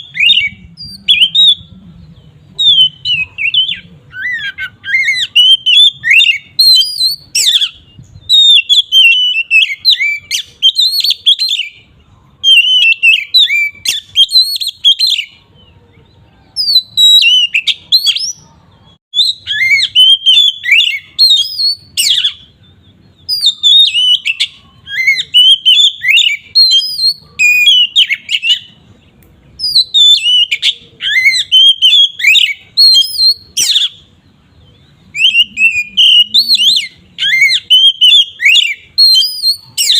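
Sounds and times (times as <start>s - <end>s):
bird singing whistled phrases: 0.0s - 15.4s, 16.5s - 28.9s, 29.6s - 39.9s.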